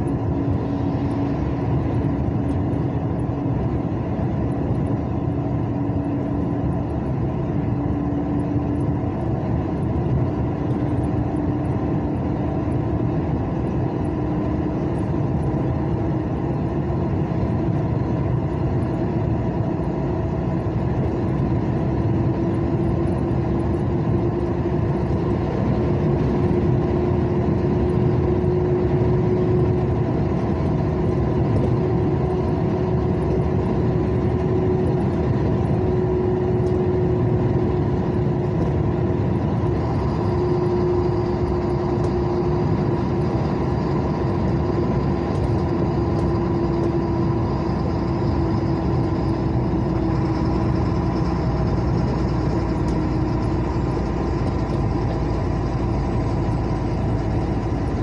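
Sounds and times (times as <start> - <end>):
engine and tyre noise: 0.0 - 58.0.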